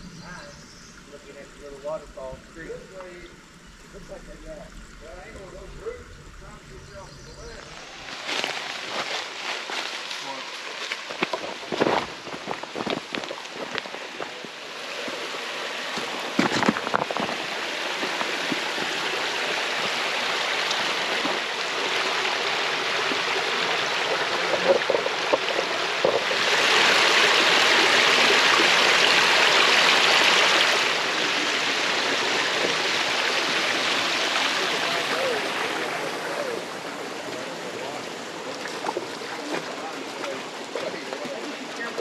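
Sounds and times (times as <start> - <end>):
creek water flowing: 0.0 - 42.0.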